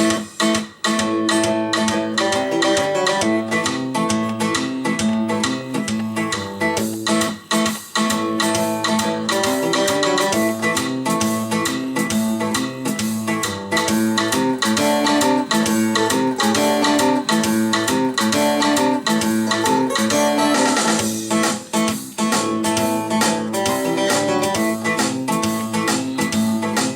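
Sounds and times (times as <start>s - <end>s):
blues-rock music over loudspeakers: 0.0s - 26.9s.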